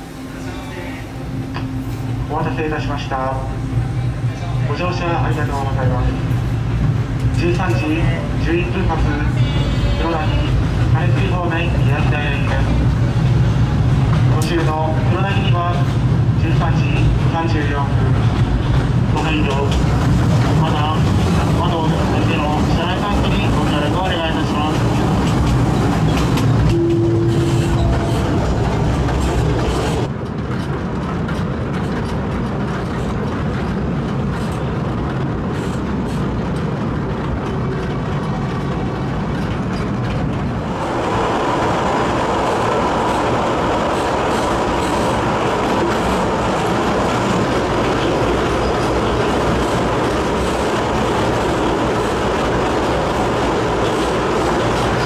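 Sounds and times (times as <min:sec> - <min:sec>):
train wheel and rail noise: 0:00.0 - 0:55.0.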